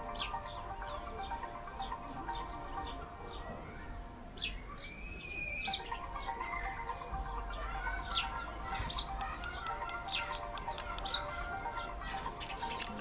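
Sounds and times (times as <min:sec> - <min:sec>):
soft background music: 0:00.0 - 0:13.0
sparrows chirping: 0:00.0 - 0:13.0.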